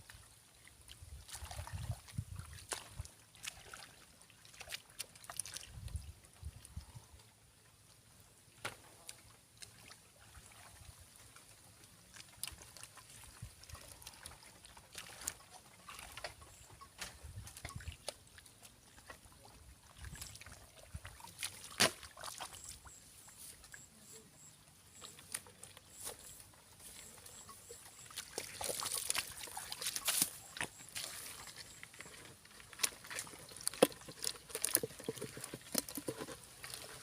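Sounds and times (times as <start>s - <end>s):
muddy water splashing: 0.0s - 7.1s, 8.5s - 37.0s.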